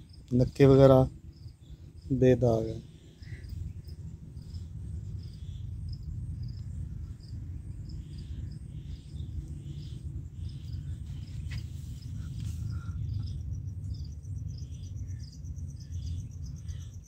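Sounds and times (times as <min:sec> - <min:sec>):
cricket chirping: 0:00.0 - 0:17.0
low outdoor rumble: 0:00.0 - 0:17.0.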